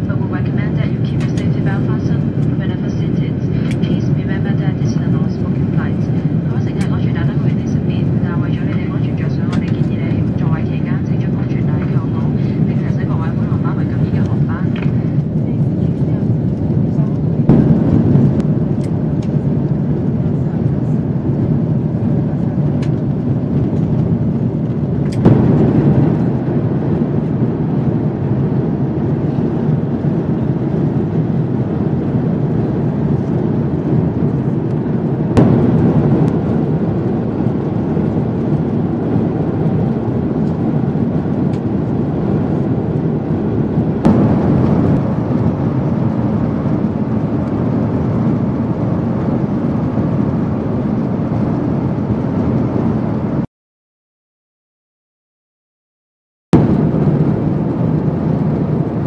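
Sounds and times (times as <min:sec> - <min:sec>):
airplane cabin engine roar: 0:00.0 - 0:53.5, 0:56.5 - 0:59.0.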